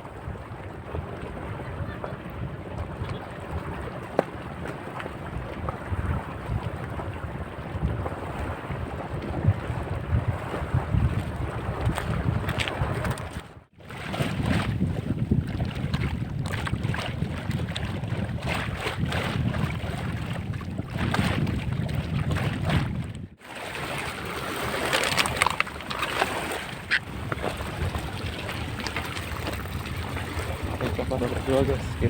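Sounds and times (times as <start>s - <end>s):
wind buffeting microphone: 0.0s - 23.4s, 24.1s - 32.0s
rush of sea water: 0.0s - 32.0s.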